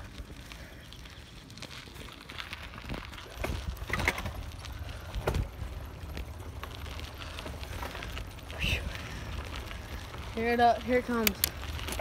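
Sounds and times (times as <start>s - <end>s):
bicycle rattling over dirt: 0.0s - 12.0s.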